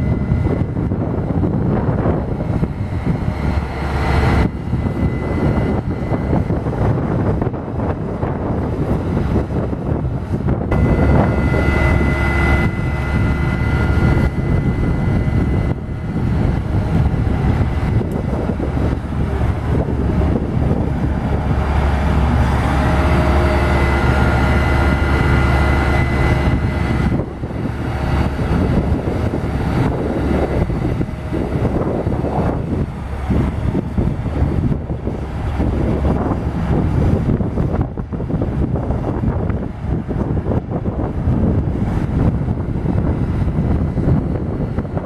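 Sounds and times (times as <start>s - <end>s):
hydraulic whine: 0.0s - 45.0s
truck engine rumbling: 0.0s - 45.0s
wind rumbling on microphone: 0.0s - 45.0s.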